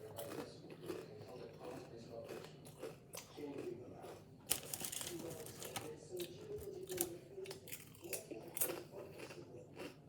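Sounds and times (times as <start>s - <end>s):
chewing: 0.0s - 10.0s
potato chips crunching: 0.0s - 10.0s.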